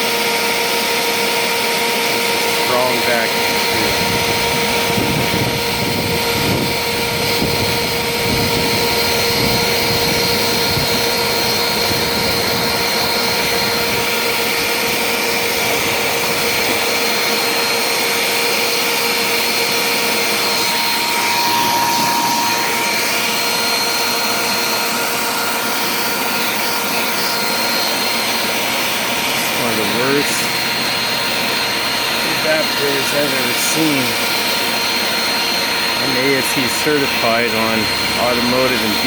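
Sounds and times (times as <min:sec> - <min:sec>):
vacuum cleaner whining: 0:00.0 - 0:39.0.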